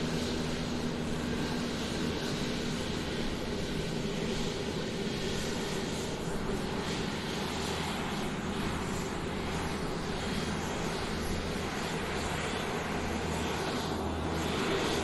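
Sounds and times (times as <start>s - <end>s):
airplane engines droning: 0.0s - 15.0s.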